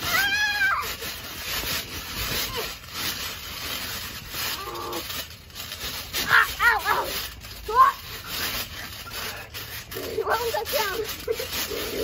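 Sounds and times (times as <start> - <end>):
boys wrestling on trampoline: 0.0 - 12.0.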